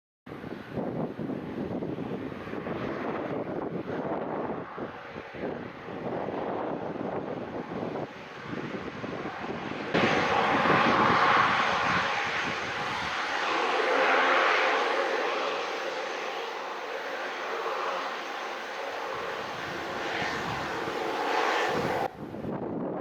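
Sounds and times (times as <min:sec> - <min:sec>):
airliner engines: 0:00.3 - 0:23.0
wind on microphone: 0:00.3 - 0:23.0.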